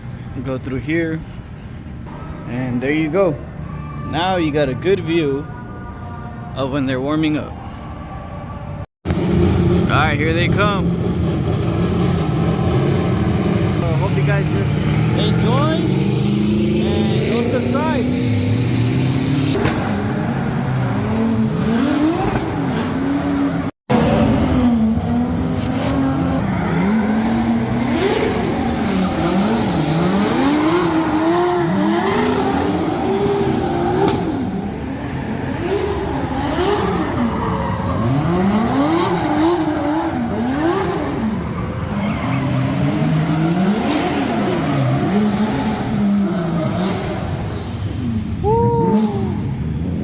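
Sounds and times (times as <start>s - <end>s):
car engines revving hard: 9.1s - 50.0s.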